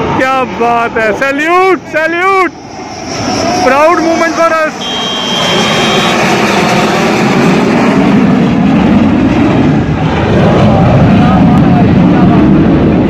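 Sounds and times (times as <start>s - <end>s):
jet flying low overhead: 0.0s - 13.0s.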